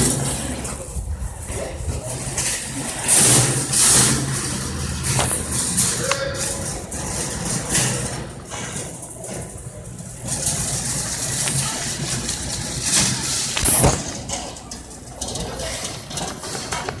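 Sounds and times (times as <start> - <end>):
background chatter: 0.0 - 17.0
shopping cart rattling rumble: 0.0 - 17.0.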